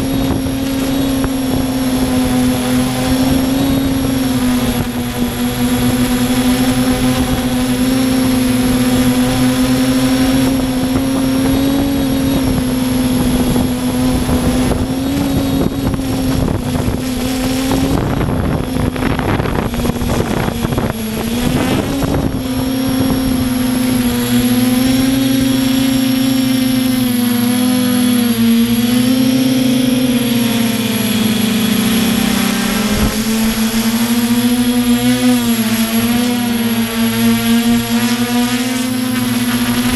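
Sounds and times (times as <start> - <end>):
quadcopter propellers humming: 0.0 - 39.9.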